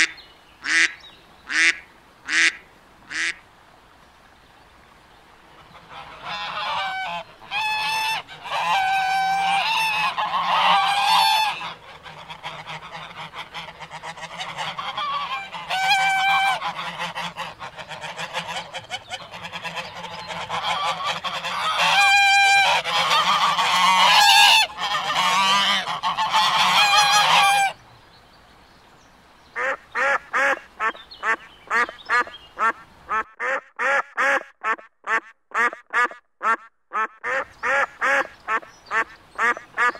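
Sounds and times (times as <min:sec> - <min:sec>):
geese honking: 0:05.8 - 0:27.8, 0:29.6 - 0:39.9.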